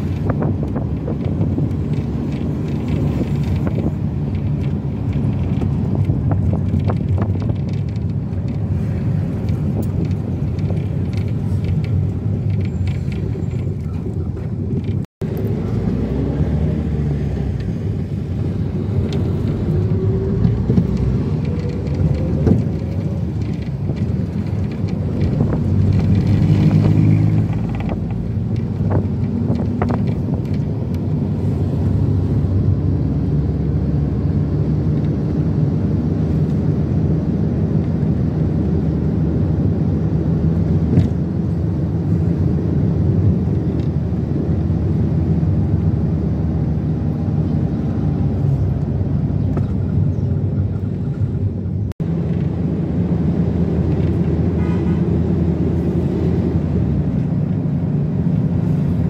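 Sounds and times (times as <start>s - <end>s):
engine hum: 0.0s - 59.0s
road noise: 0.0s - 59.0s.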